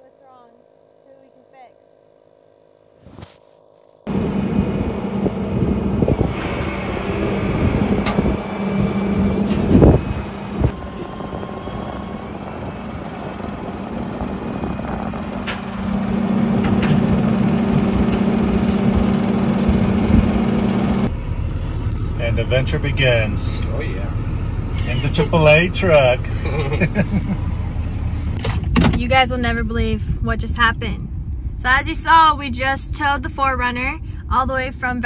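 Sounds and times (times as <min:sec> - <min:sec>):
motor vehicle engine hum: 0:00.0 - 0:35.0
rumbling noise: 0:04.1 - 0:35.0.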